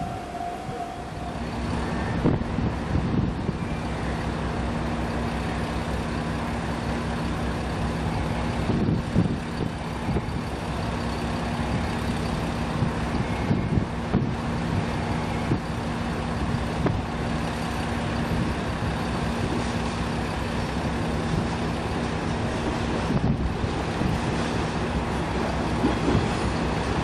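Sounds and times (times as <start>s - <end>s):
diesel train engine droning: 0.0s - 27.0s.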